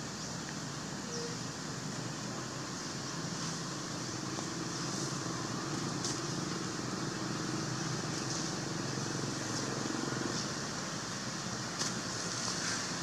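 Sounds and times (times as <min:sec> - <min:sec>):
distant traffic hum: 0:00.0 - 0:13.0
high hiss: 0:00.0 - 0:13.0.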